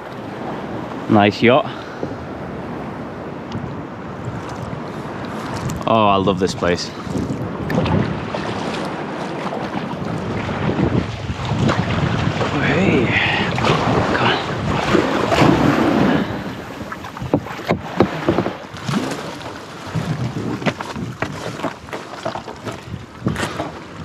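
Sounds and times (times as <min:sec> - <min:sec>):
wind buffeting microphone: 0:00.0 - 0:24.0
water splashing: 0:04.4 - 0:23.8.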